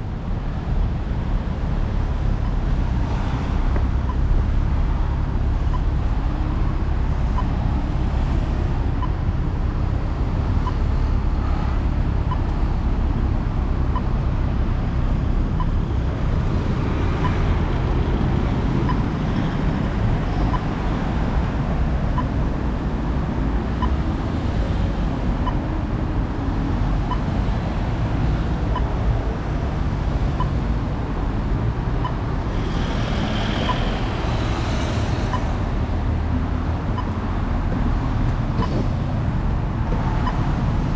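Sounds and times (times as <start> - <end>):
wind and road rumble: 0.0 - 40.9.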